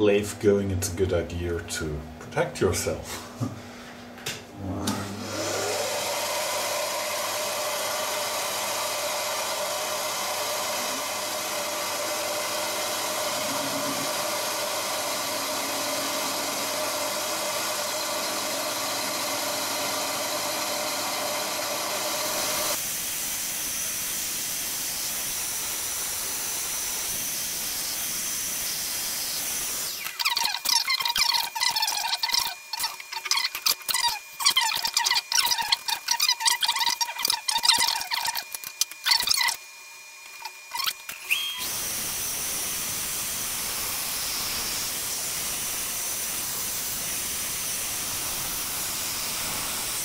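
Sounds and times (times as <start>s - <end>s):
shop vacuum running with hiss: 4.8s - 50.0s.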